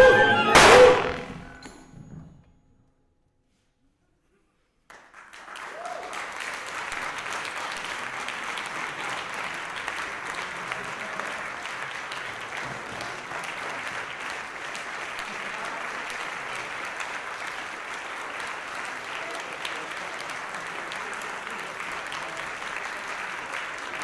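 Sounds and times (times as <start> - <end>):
audience applause: 0.0 - 1.3, 4.9 - 24.0.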